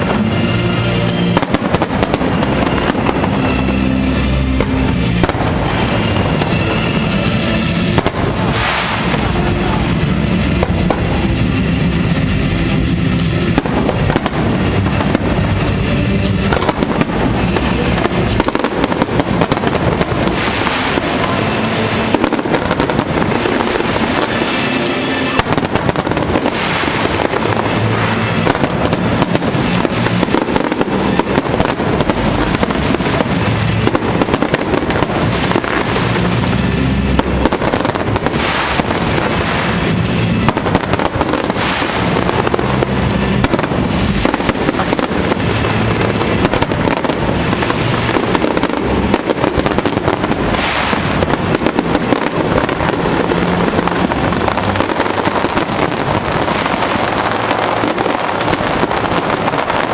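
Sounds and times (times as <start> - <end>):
fireworks bursting and crackling: 0.0 - 59.9
music playing: 0.0 - 59.9.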